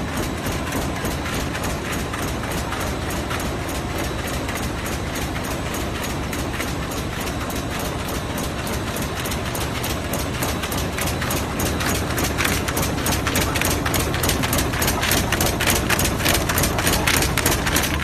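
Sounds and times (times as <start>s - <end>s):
machine clattering over a drone: 0.0s - 18.0s.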